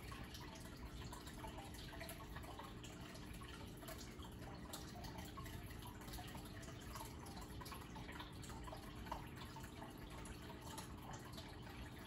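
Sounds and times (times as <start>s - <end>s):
aquarium water bubbling: 0.0s - 12.0s
faint steady hum: 0.0s - 12.0s.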